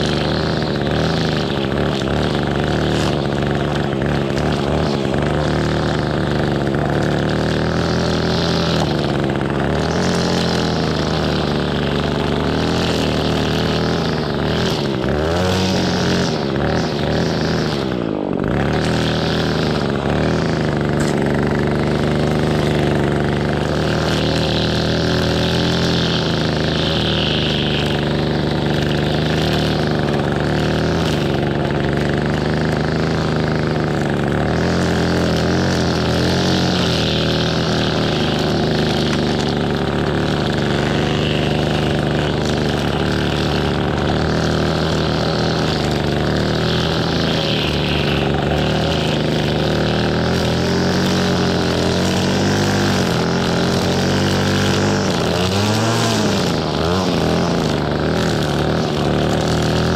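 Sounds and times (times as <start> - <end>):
string trimmer cutting grass: 0.0 - 59.9.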